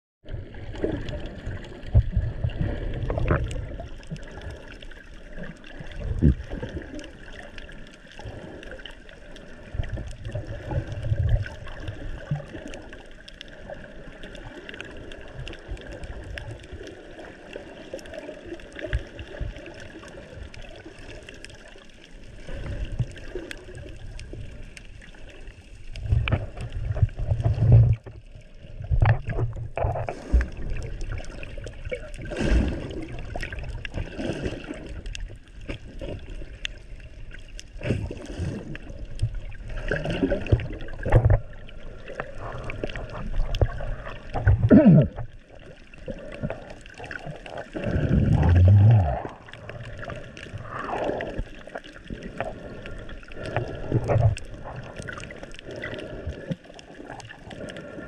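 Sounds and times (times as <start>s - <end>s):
water sloshing underwater: 0.2s - 58.0s.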